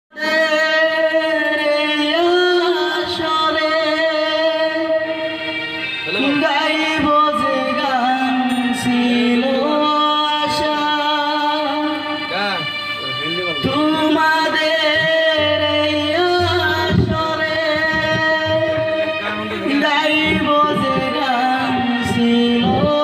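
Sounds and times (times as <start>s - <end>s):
boy singing into a microphone: 0.1s - 23.0s
instrumental accompaniment: 0.1s - 23.0s.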